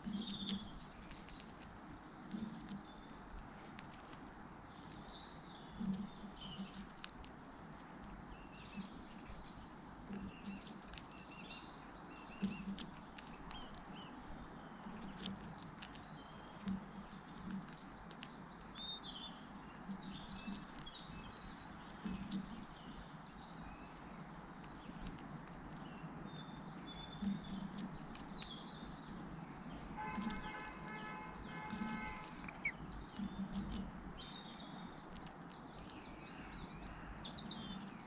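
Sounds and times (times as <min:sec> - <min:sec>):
parrot pecking at feeder: 0:00.0 - 0:19.0, 0:19.7 - 0:36.6
small birds chirping: 0:00.0 - 0:38.0.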